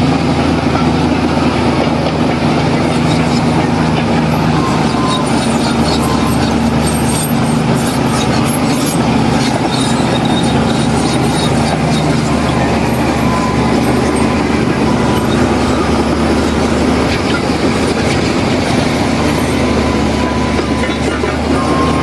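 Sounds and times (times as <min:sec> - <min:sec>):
heavy diesel engine running: 0:00.0 - 0:22.0
high-pitched clicks and squeaks: 0:02.8 - 0:22.0.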